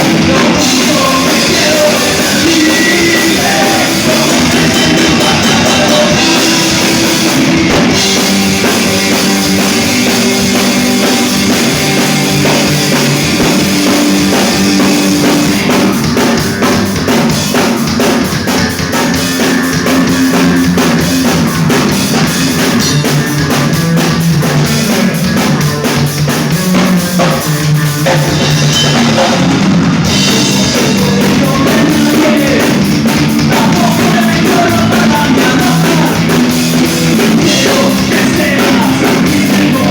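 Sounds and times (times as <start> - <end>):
drum kit: 0.0 - 39.9
rock band playing live: 0.0 - 39.9.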